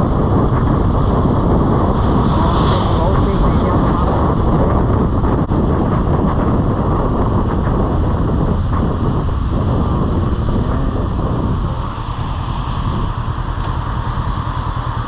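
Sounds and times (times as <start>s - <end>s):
motorcycle road noise: 0.0s - 15.0s
wind buffeting microphone: 0.0s - 15.0s.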